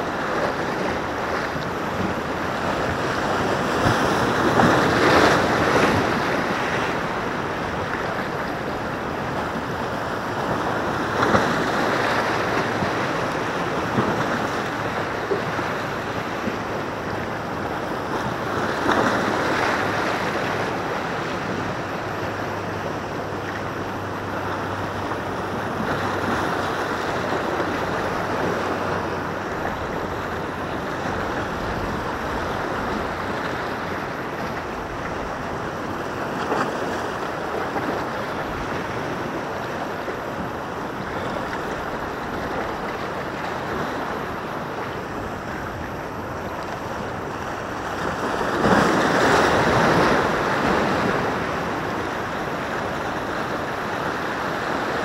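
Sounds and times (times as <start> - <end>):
waves breaking over rocks: 0.0 - 55.0.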